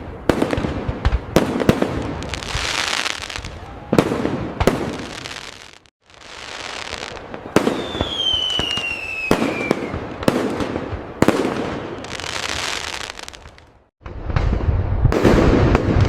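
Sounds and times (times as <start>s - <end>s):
fireworks aerial bangs: 0.0s - 16.0s
fireworks crackling: 0.2s - 16.0s
whistling firework: 0.3s - 13.6s.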